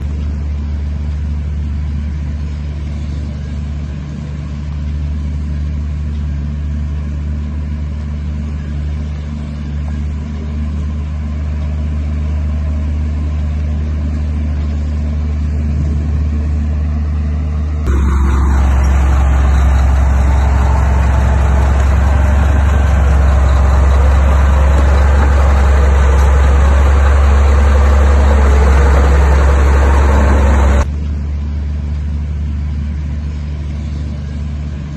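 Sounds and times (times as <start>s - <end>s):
diesel machinery engine drone: 0.0s - 34.9s.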